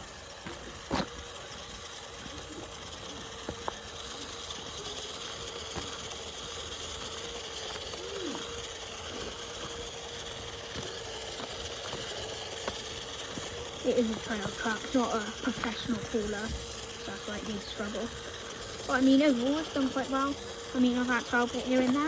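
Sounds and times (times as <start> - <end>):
small electric motor whining: 0.0 - 22.0.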